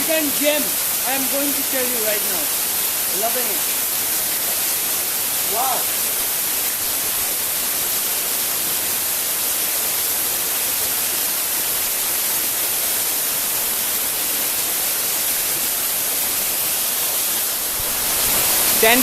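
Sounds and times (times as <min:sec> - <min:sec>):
waterfall splashing: 0:00.0 - 0:19.0.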